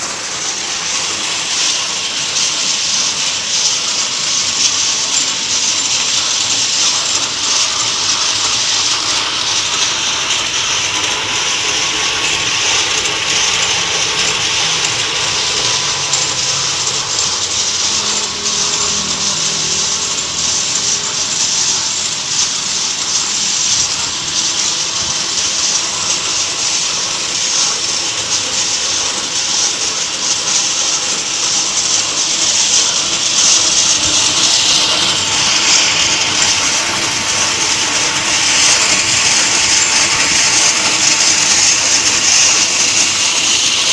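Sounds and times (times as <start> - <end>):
brick cutting machine running: 0.0 - 43.9.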